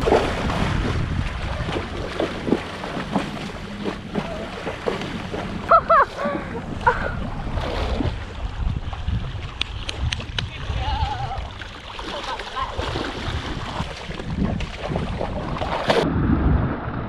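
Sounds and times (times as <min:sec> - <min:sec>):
wind on microphone: 0:00.0 - 0:11.6, 0:12.6 - 0:17.0
pony sloshing through water: 0:00.0 - 0:16.1.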